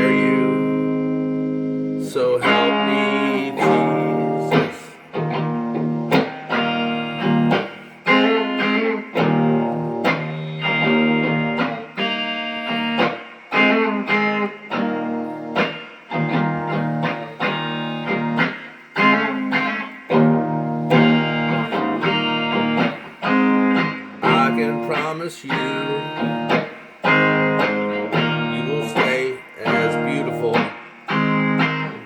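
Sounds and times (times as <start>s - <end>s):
guitar chords ringing: 0.0s - 32.0s.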